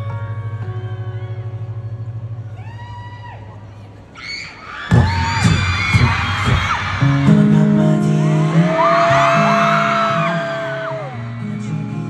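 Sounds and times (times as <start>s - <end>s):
crowd screaming and cheering: 0.5s - 12.0s.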